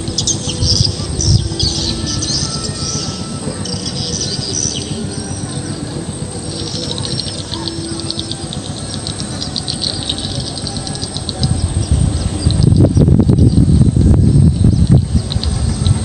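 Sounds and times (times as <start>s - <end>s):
low rumbling background: 0.0s - 16.0s
small birds twittering: 0.0s - 16.0s.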